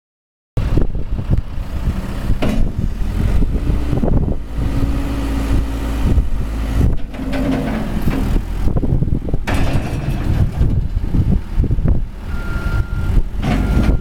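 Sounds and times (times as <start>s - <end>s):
diesel engine running: 0.6s - 14.0s.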